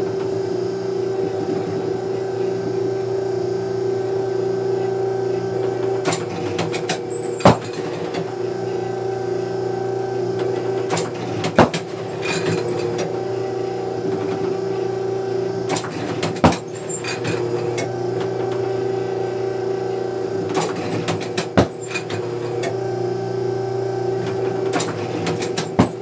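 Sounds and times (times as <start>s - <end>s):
trap machine humming: 0.0s - 26.0s.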